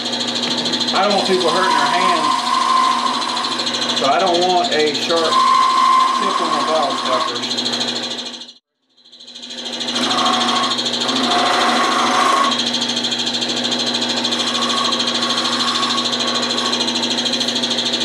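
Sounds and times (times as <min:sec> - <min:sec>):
gouge cutting spinning wood: 0:00.0 - 0:08.6, 0:09.2 - 0:18.0
wood lathe motor whine: 0:00.0 - 0:18.0.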